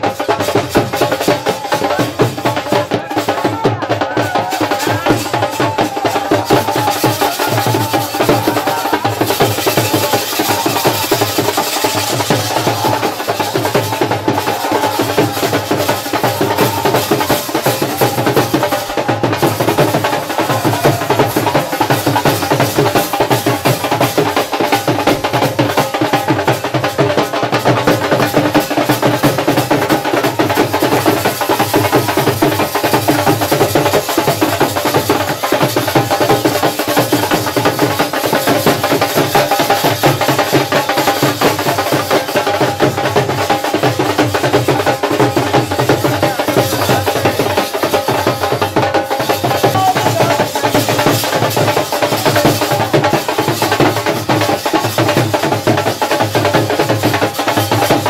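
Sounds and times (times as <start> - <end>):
drums beating fast rhythm: 0.0 - 58.0.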